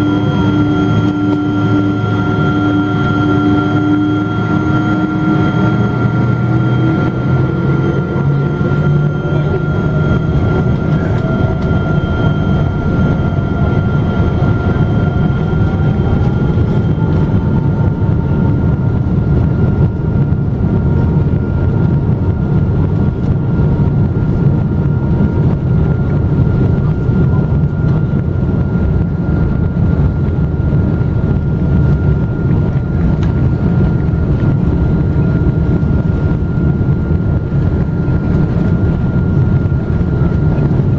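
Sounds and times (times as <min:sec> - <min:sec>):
aircraft cabin low rumble: 0:00.0 - 0:40.9
jet engine whine rising: 0:00.0 - 0:40.9.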